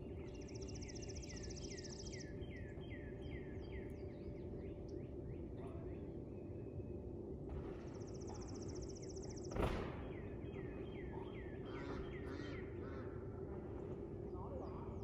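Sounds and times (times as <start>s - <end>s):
birds chirping: 0.0s - 6.9s, 7.9s - 15.0s
steady low hum: 0.0s - 15.0s.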